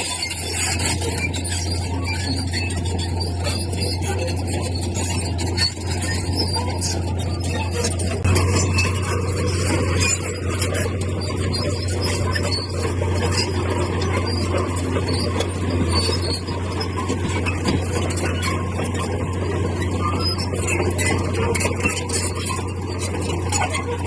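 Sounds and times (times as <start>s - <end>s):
bulldozer diesel engine running: 0.0s - 24.0s
high squeaks and clicks: 0.0s - 24.0s.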